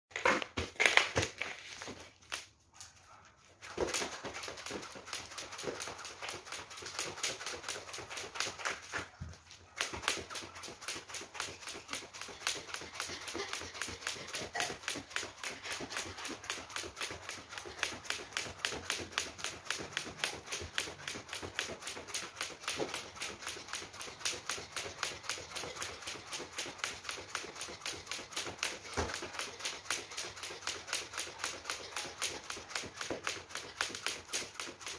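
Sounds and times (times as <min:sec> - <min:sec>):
jump rope slapping wooden floor: 0:03.6 - 0:34.9.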